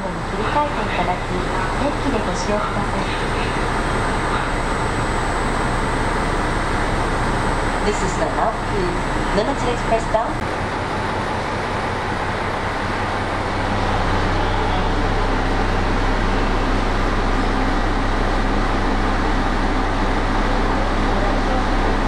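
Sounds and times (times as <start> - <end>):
train engine drone: 0.0 - 22.0
train running noise: 0.0 - 22.0.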